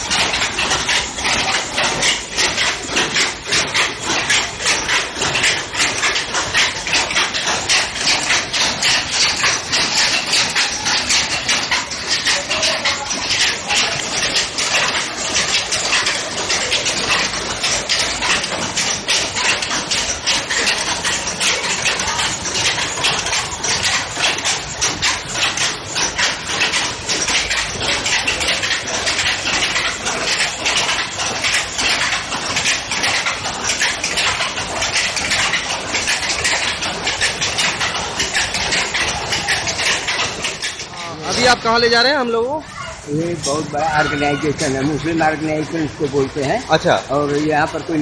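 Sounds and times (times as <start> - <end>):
power loom clattering: 0.0 - 48.0.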